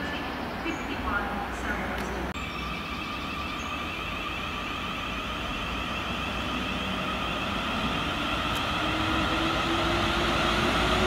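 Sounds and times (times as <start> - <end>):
wheels rumbling on rail: 0.0 - 11.0
train motors whining: 2.0 - 11.0.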